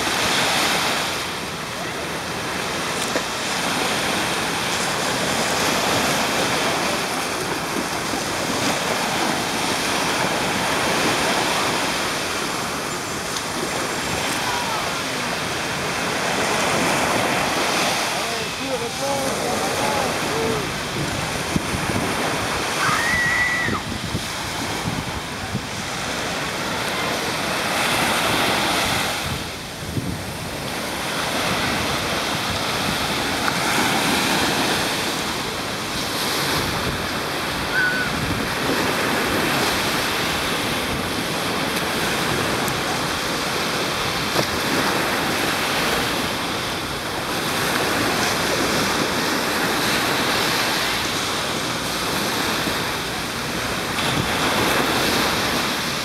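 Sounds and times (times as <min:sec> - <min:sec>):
waves breaking on beach: 0:00.0 - 0:56.0
wind on microphone: 0:00.0 - 0:56.0.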